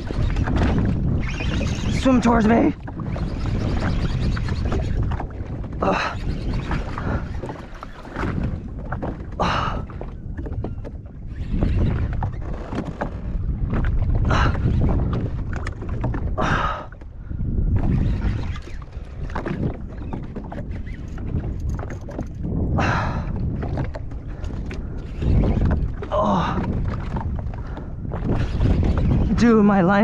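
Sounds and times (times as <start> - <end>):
water washing against hull: 0.0 - 30.0
wind rumbling on microphone: 0.0 - 30.0.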